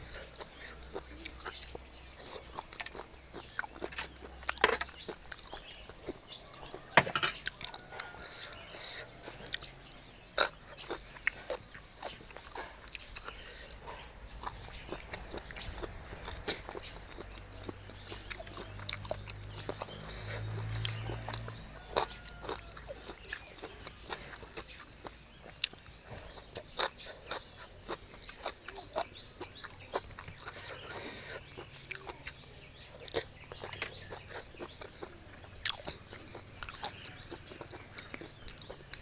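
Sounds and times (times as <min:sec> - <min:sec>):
person chewing crunchy food: 0:00.0 - 0:39.0.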